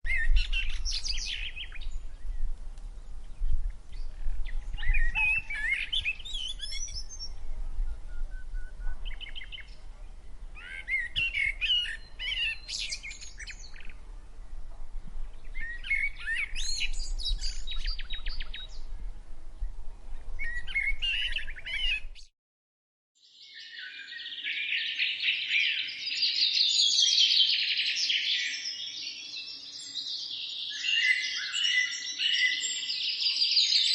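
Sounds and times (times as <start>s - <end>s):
chorus of birds chirping: 0.1s - 22.3s, 23.2s - 33.9s
songbirds singing: 0.1s - 22.3s, 23.2s - 33.9s.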